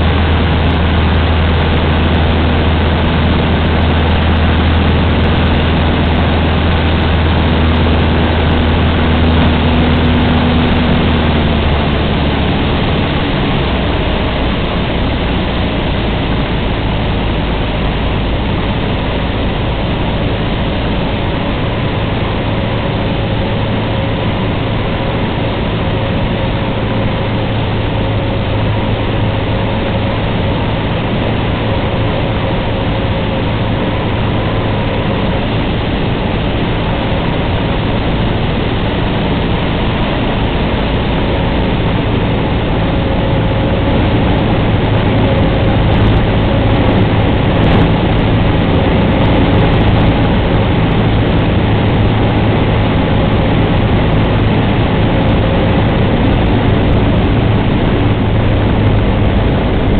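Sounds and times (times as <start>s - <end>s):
airplane engine and propeller: 0.0s - 59.9s.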